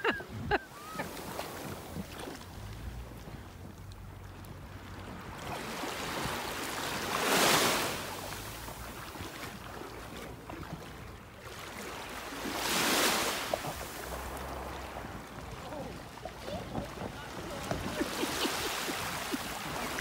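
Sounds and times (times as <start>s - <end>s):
small waves washing on beach: 0.0s - 20.0s.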